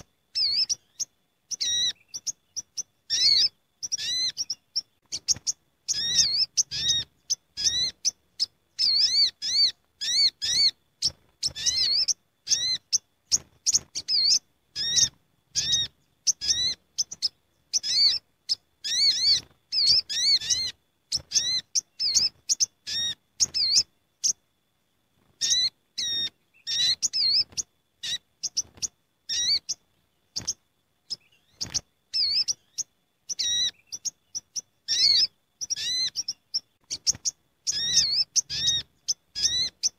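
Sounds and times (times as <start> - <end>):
birds chirping: 0.0 - 24.5, 25.1 - 39.9.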